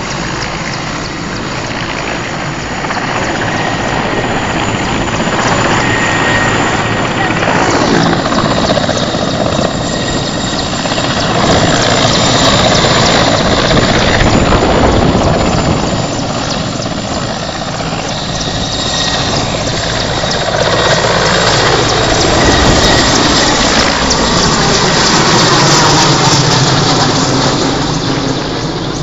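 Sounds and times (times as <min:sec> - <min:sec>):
helicopter rotor and engine: 0:00.0 - 0:29.0.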